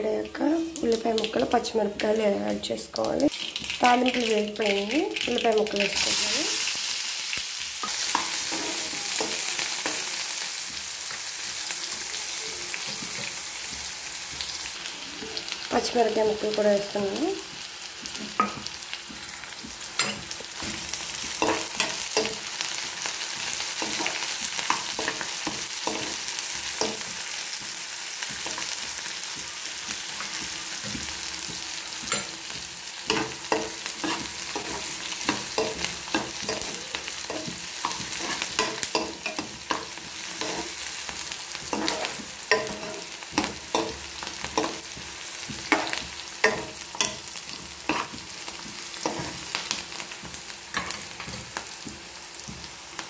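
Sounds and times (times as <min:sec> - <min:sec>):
onions sizzling in hot oil: 0:00.0 - 0:53.0.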